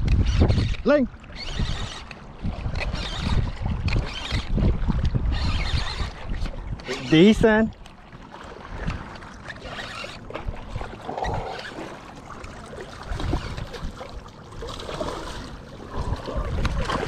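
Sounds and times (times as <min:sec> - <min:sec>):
wind buffeting microphone: 0:00.0 - 0:11.8, 0:12.7 - 0:17.0
water lapping against boat: 0:00.0 - 0:17.0.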